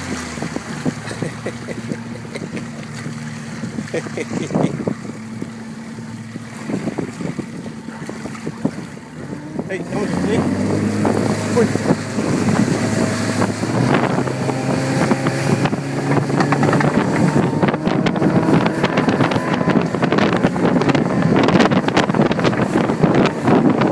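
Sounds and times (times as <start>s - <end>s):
motorboat engine humming: 0.0s - 23.9s
wind buffeting microphone: 0.0s - 23.9s.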